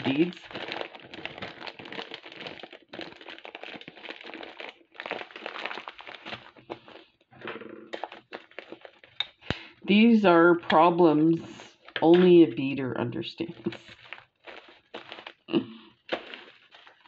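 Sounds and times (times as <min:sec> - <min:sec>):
plastic bag of beads crinkling: 0:00.0 - 0:12.6, 0:13.5 - 0:17.0.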